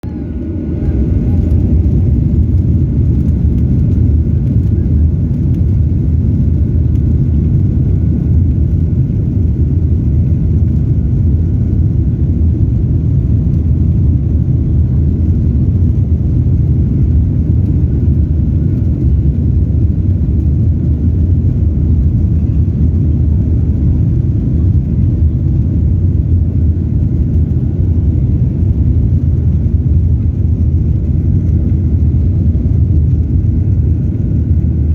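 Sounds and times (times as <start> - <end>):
airplane engines rumbling: 0.0 - 34.9.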